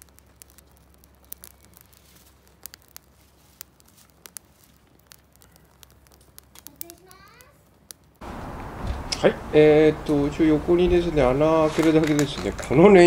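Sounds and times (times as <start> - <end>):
twigs crackling in a fire: 0.0 - 13.0.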